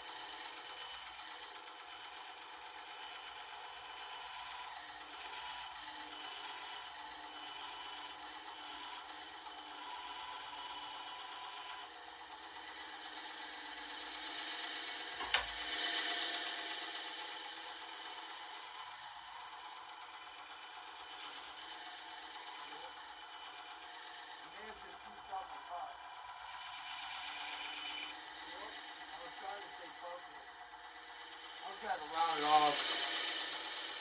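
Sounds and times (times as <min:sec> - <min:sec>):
bandsaw cutting board: 0:00.0 - 0:34.0.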